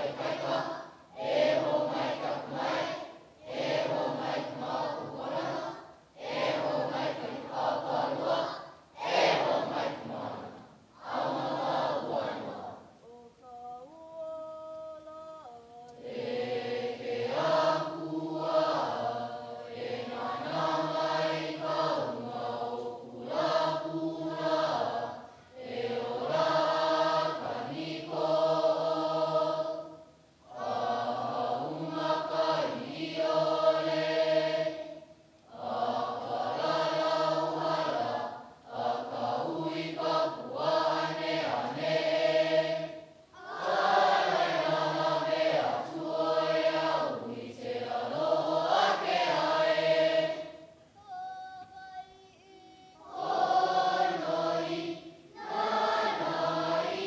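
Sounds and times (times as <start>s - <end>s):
children chanting in unison: 0.0s - 14.6s, 15.2s - 57.0s.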